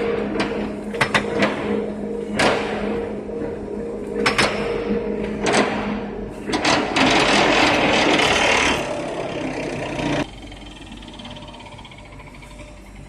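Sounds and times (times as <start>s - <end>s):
lathe running: 0.0s - 13.0s.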